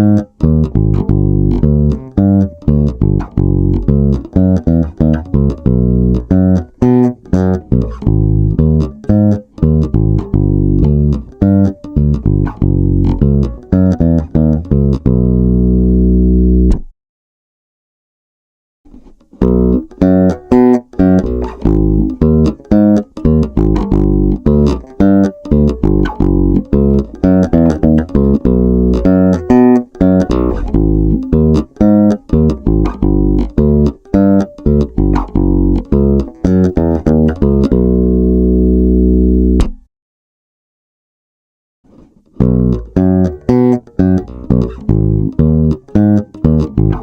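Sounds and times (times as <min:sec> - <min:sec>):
electric bass guitar plucked notes: 0:00.0 - 0:16.9, 0:19.4 - 0:39.9, 0:42.4 - 0:47.0.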